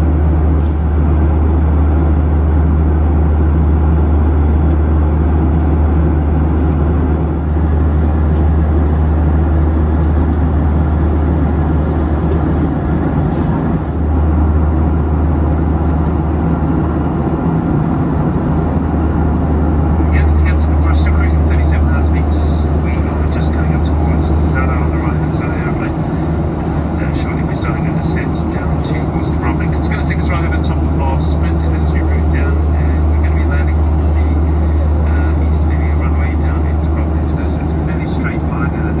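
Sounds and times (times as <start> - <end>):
airflow rushing past fuselage: 0.0 - 39.0
jet engines humming: 0.0 - 39.0.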